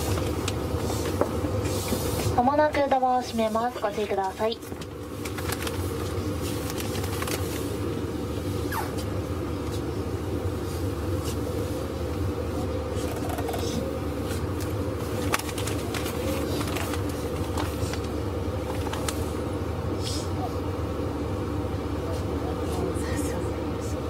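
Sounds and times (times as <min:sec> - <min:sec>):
train motors and wheels rumbling: 0:00.0 - 0:24.0.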